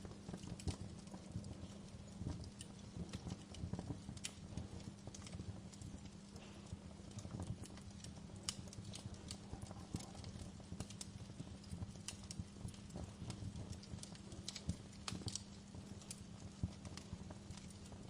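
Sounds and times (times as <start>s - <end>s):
faint steady hum: 0.0s - 18.0s
wood fire crackling: 0.0s - 18.0s.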